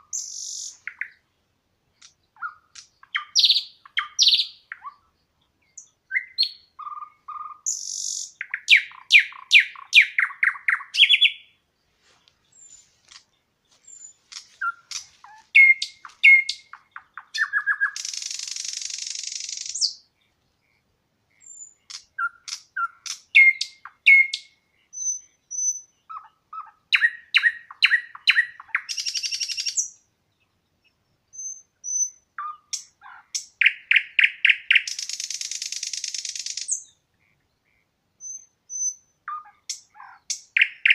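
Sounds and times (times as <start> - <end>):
songbird singing with buzzy trills: 0.0 - 40.9.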